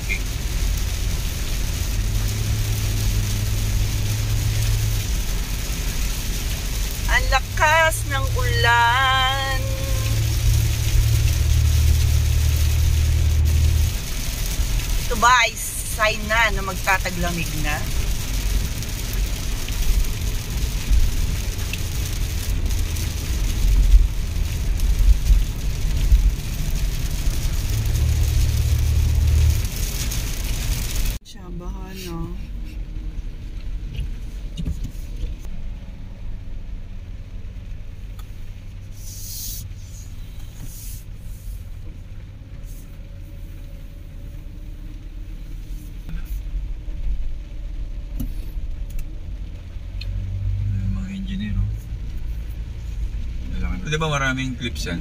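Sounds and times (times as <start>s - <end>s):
engine and road hum: 0.0s - 55.0s
rain and wet road hiss: 0.0s - 55.0s.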